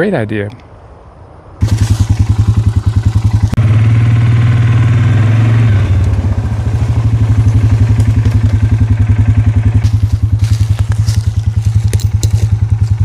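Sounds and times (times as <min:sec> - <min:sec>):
atv engine pulsing and revving: 0:01.6 - 0:13.0.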